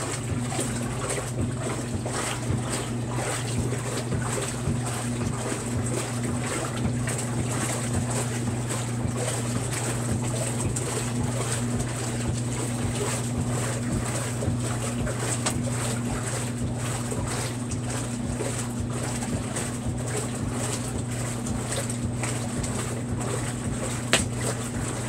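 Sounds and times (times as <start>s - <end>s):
washer motor hum: 0.0s - 25.0s.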